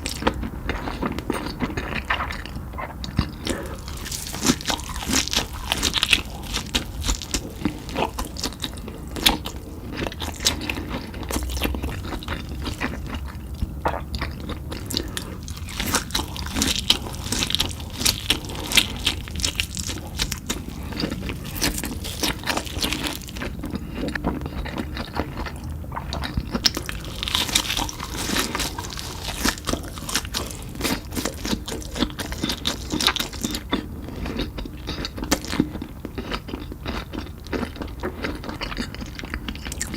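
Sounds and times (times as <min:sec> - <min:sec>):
crisp crunches of chewing: 0:00.0 - 0:39.9.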